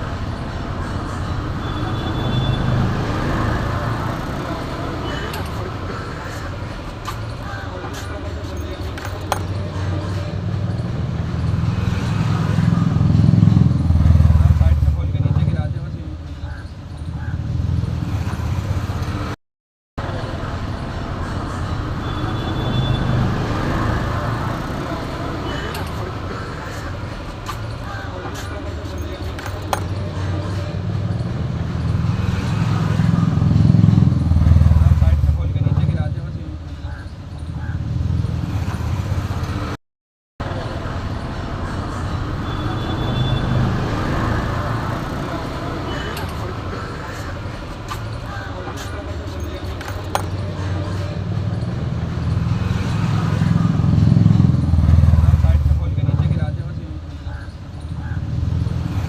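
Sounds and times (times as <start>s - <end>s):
rumbling vehicle noise: 0.0s - 19.4s, 20.0s - 39.8s, 40.4s - 59.0s.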